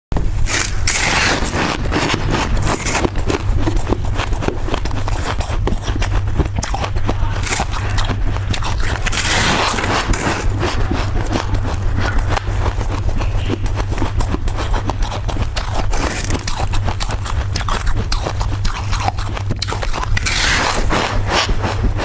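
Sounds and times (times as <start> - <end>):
low hum: 0.1 - 22.0
frost crunching: 0.2 - 22.0.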